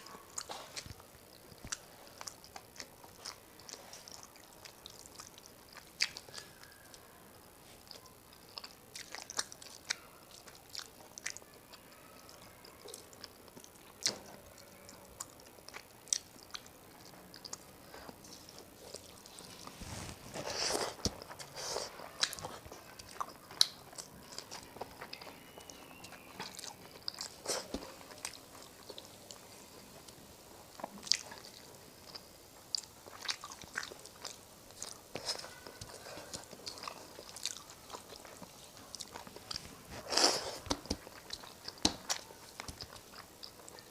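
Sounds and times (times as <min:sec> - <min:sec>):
person chewing food: 0:00.0 - 0:07.1, 0:07.7 - 0:43.9.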